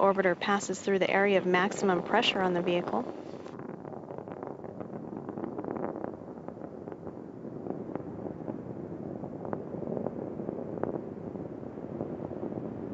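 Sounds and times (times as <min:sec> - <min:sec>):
rocket exhaust rumble with crackles: 0:00.0 - 0:12.9.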